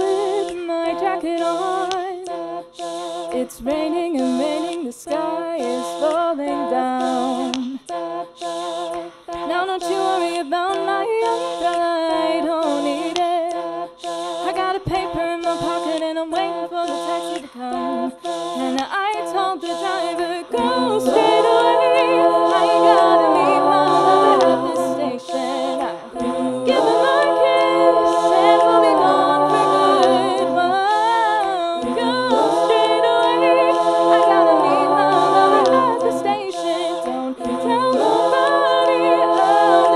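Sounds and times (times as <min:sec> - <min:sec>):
woman singing layered harmonies: 0:00.0 - 0:02.4, 0:03.3 - 0:39.9.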